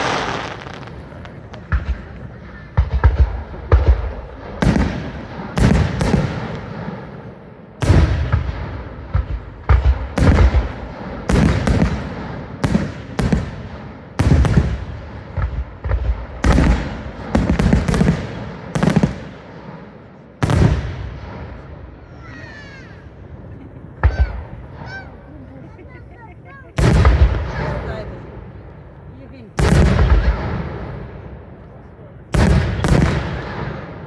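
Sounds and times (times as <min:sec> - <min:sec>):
fireworks bangs with low rumble: 0:00.0 - 0:34.0.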